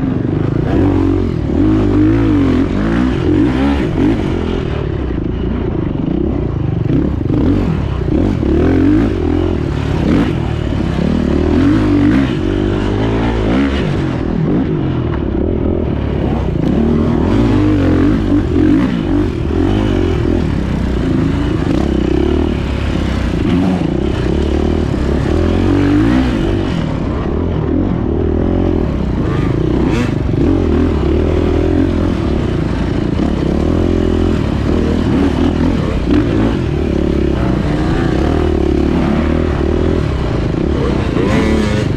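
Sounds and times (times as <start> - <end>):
dirt bike engine running hard: 0.0 - 41.9.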